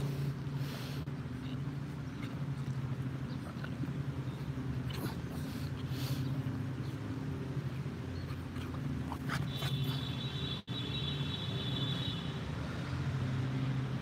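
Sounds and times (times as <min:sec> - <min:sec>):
traffic engine rumble: 0:00.0 - 0:14.0.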